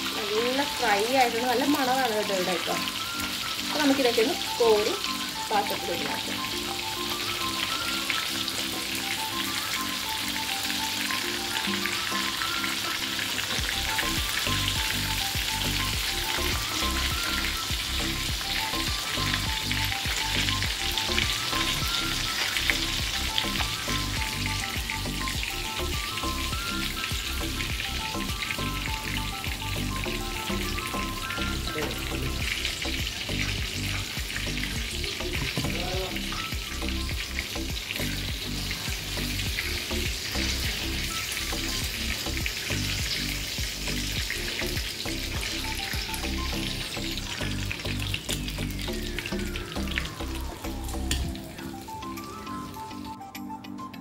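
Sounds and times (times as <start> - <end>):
food deep-frying in hot oil: 0.0 - 53.2.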